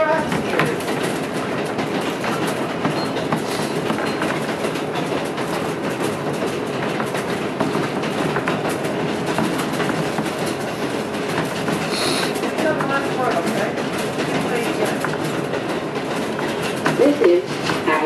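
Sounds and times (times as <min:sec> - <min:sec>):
train wheels running on track: 0:00.0 - 0:18.0
wheels clicking over rail joints: 0:00.0 - 0:18.0.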